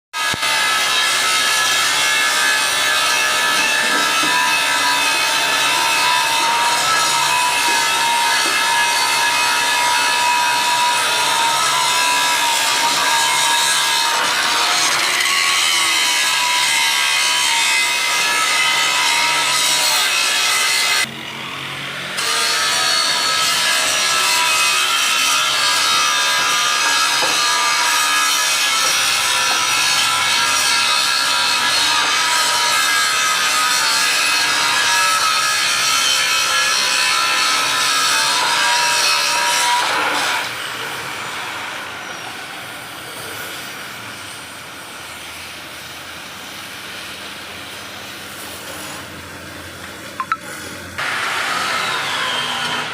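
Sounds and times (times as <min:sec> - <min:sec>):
angle grinder on steel: 0:00.2 - 0:52.9.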